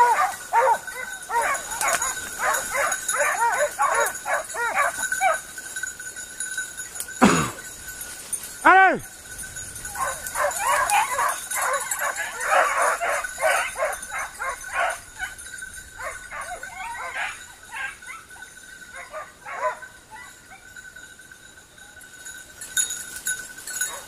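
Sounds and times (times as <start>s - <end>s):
hounds baying: 0.0s - 7.9s, 9.8s - 21.0s, 23.7s - 24.0s.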